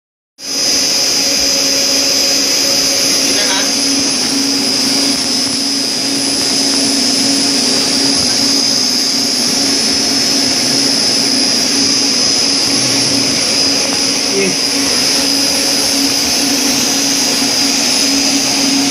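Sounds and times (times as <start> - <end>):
cooling fans whooshing: 0.4 - 18.9
high-pitched whine: 0.4 - 18.9
low hum: 3.7 - 18.9.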